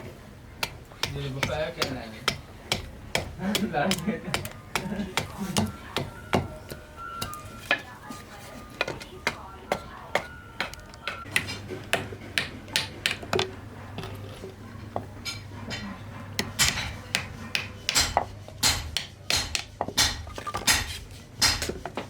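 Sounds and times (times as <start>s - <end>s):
hand hammer tapping: 0.6s - 7.8s, 8.7s - 14.1s, 16.4s - 21.8s.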